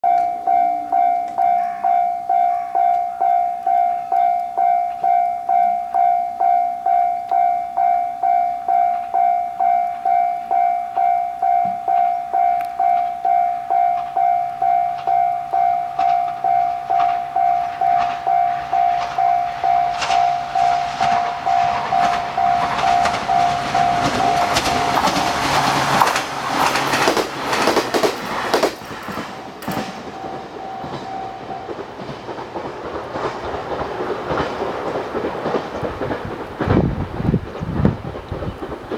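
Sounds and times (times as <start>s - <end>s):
level-crossing warning bell: 0.0s - 36.6s
train wheels clacking: 0.1s - 38.9s.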